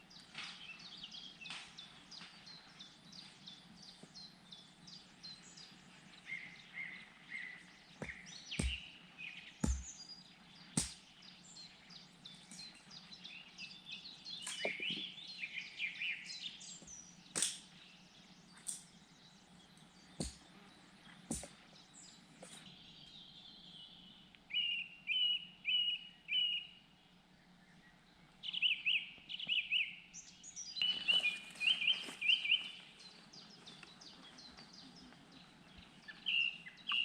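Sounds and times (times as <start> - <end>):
songbirds chirping and trilling: 0.0 - 37.0.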